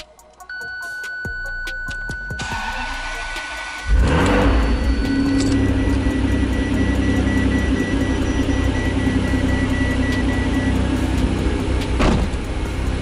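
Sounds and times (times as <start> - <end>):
car engine running at low revs: 2.5 - 13.0.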